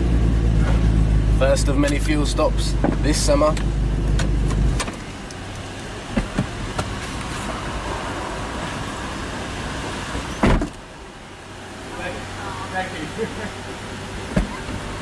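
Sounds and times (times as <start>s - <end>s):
car engine idling: 0.0s - 15.0s
traffic noise: 0.0s - 15.0s.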